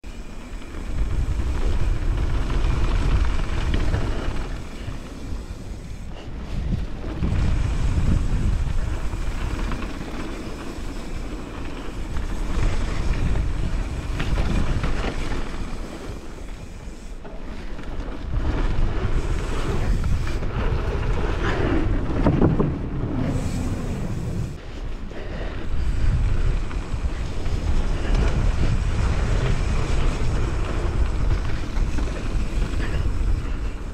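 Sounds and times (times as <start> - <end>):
bike rattling over rough ground: 0.0 - 33.9
wind buffeting microphone: 0.0 - 33.9.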